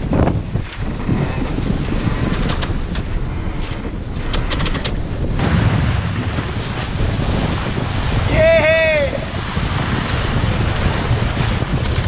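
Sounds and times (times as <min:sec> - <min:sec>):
sea water rushing along hulls: 0:00.0 - 0:12.0
wind buffeting microphone: 0:00.0 - 0:12.0.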